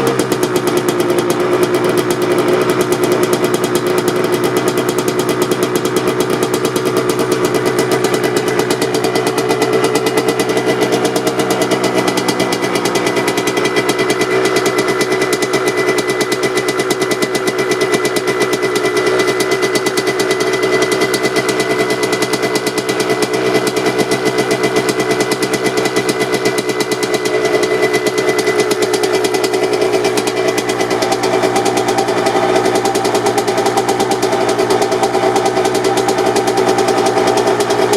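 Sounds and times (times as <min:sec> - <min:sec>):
two-stroke dirt bike idling: 0:00.0 - 0:37.9.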